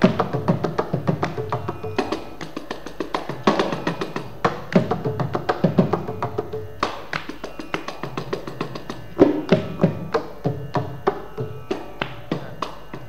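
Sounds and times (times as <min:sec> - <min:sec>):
mridangam drum solo: 0:00.0 - 0:13.0.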